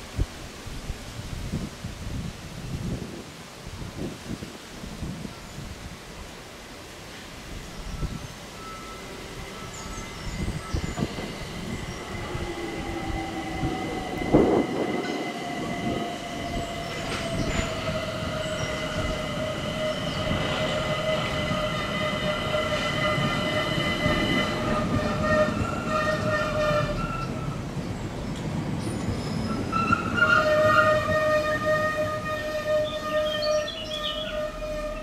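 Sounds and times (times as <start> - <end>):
train passing with high whine: 5.9 - 35.0.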